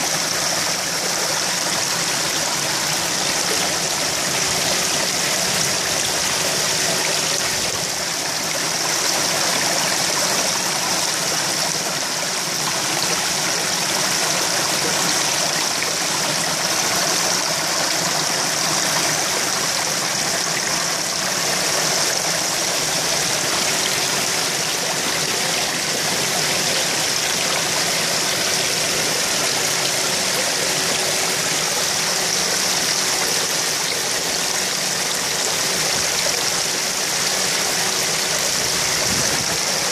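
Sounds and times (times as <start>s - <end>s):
churning pond water bubbling: 0.0s - 39.9s
faint steady hum: 0.0s - 39.9s.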